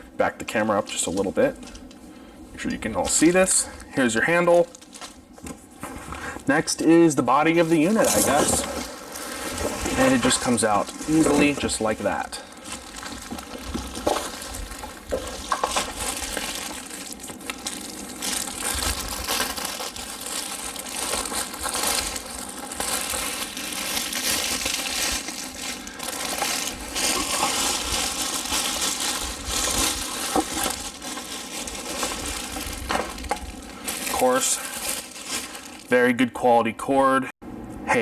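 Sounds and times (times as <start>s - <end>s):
cardboard and plastic rustling: 4.4s - 35.9s.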